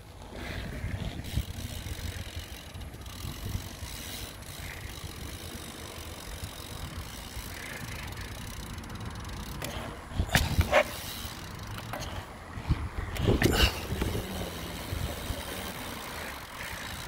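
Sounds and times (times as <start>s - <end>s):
bike clattering: 0.0s - 17.0s
bike riding rumble: 0.0s - 17.0s.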